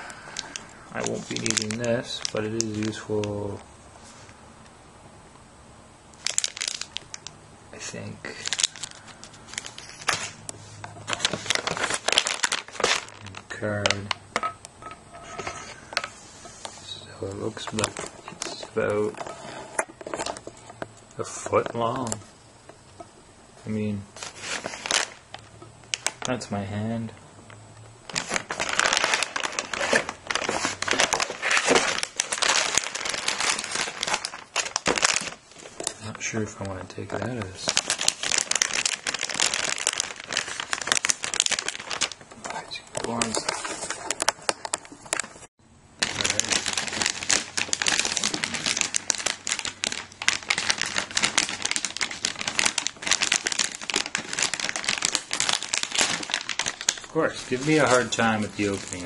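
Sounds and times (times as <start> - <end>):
plastic packaging crinkling: 0.0 - 4.2, 6.2 - 14.5, 15.3 - 22.3, 23.7 - 27.1, 28.0 - 59.0.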